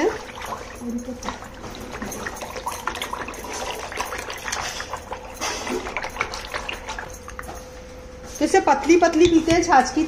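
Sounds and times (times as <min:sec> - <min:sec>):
liquid sloshing in bowl: 0:00.0 - 0:08.5.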